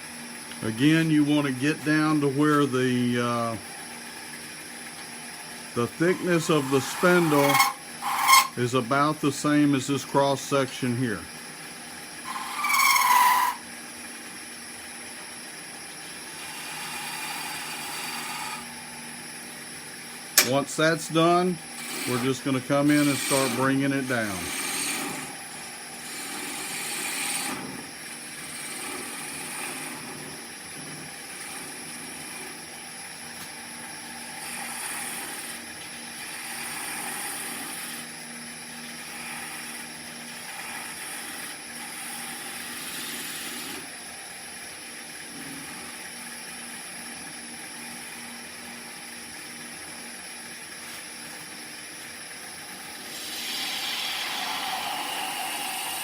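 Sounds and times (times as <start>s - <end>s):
tool cutting spinning wood: 0.6s - 3.8s, 5.4s - 14.0s, 14.6s - 19.6s, 20.2s - 44.0s, 44.6s - 47.2s, 52.6s - 56.0s
wood lathe humming: 0.6s - 47.2s, 52.0s - 56.0s.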